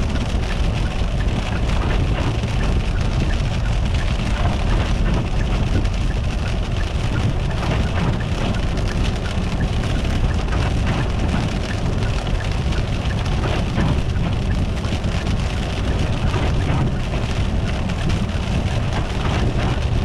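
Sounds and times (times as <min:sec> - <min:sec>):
car rumble: 0:00.0 - 0:20.0.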